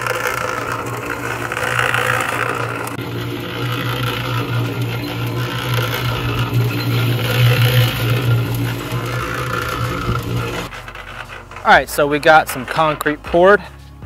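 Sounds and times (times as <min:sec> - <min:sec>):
cement mixer motor humming: 0:00.0 - 0:13.6.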